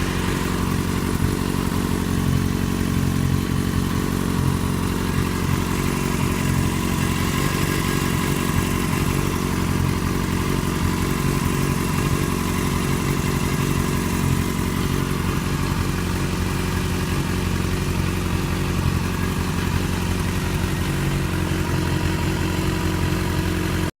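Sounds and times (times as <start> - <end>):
motorcycle engine running steadily: 0.0 - 23.9.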